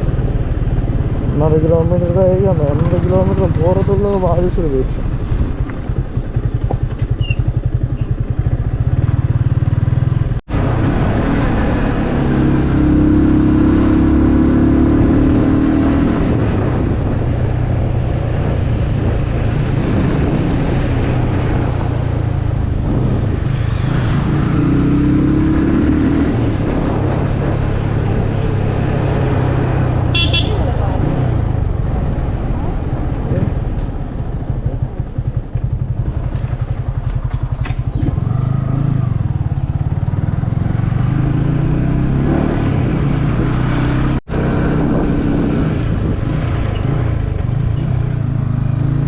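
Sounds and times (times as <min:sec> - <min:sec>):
road rumble: 0:00.0 - 0:49.0.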